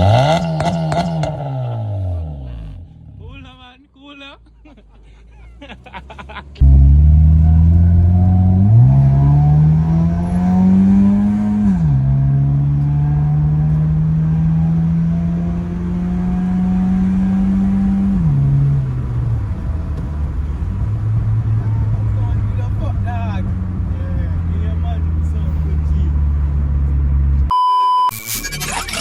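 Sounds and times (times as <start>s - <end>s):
car engine and exhaust revving: 0.0s - 3.6s, 5.6s - 27.5s.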